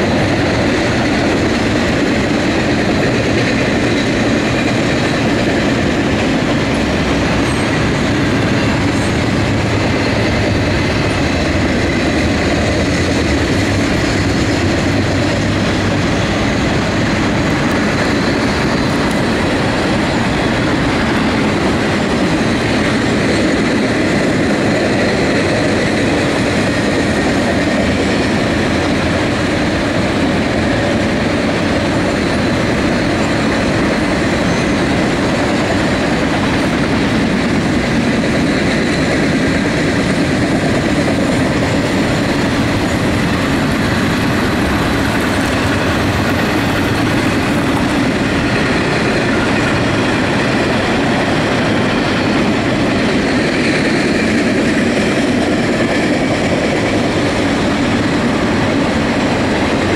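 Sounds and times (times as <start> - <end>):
clickety-clack over rail joints: 0.0 - 59.9
freight train wheels on rails: 0.0 - 59.9.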